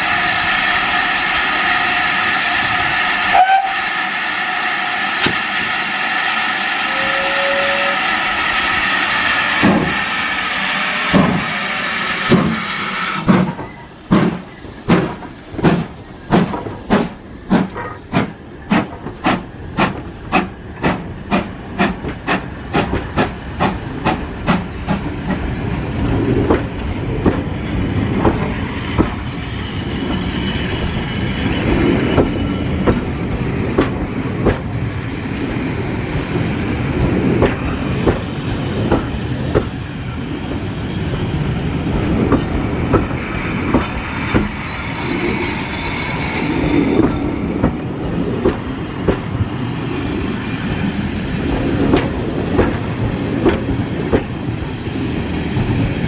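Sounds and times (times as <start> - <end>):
steam locomotive exhaust beats: 0.0 - 56.0
train coaches rumbling: 0.0 - 56.0.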